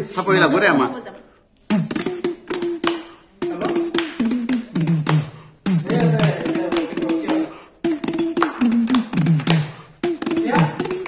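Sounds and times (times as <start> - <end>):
man making mouth music: 1.6 - 11.0
sharp clicking taps: 1.7 - 11.0.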